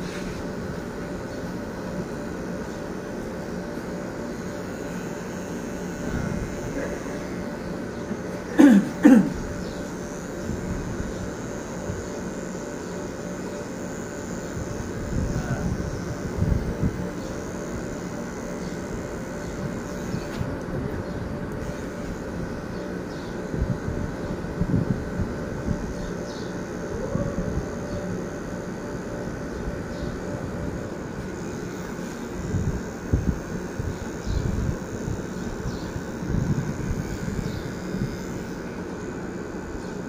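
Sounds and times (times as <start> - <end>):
electric hair trimmer buzzing: 0.0 - 40.0.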